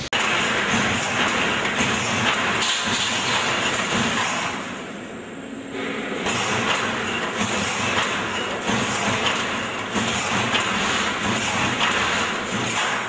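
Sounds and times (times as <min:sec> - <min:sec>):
welding machine clatter: 0:00.0 - 0:13.0.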